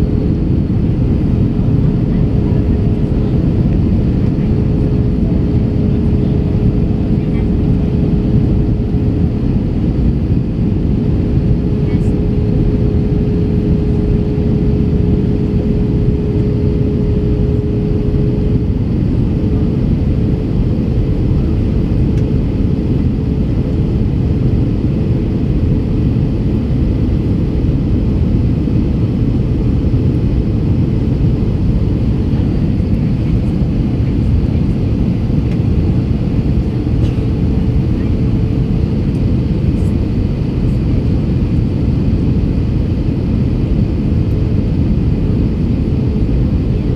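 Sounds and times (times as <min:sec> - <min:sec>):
jet engine and airflow noise: 0:00.0 - 0:46.9
steady hum: 0:00.0 - 0:46.9.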